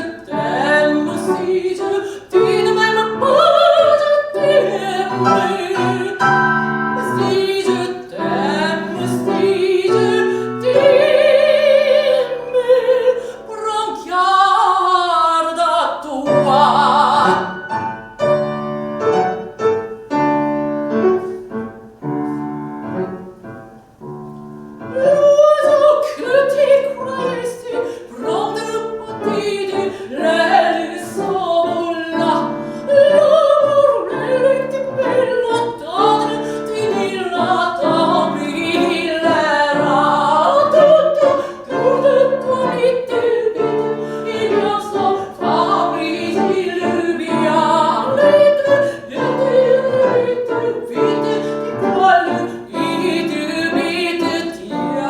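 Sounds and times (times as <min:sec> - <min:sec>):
piano accompaniment: 0:00.0 - 0:55.0
soprano singing: 0:00.0 - 0:55.0.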